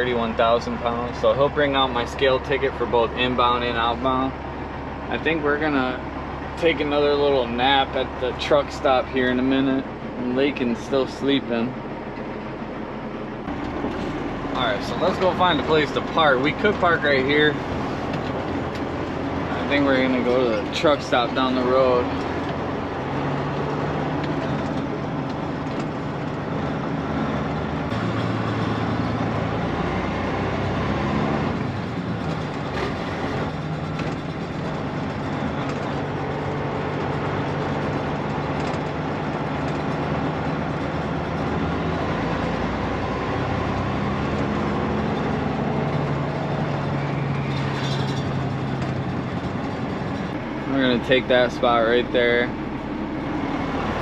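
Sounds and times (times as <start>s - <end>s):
truck engine and road noise: 0.0s - 54.0s.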